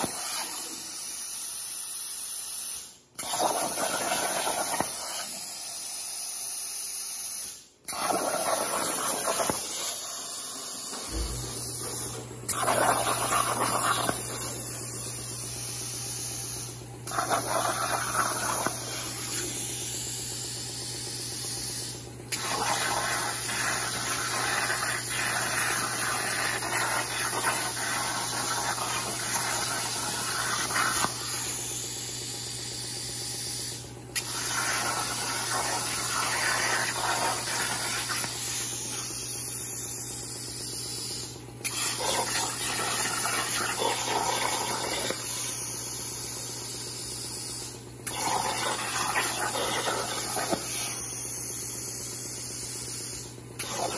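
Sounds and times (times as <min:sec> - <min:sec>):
plasma cutter arc hissing: 0:00.0 - 0:53.9.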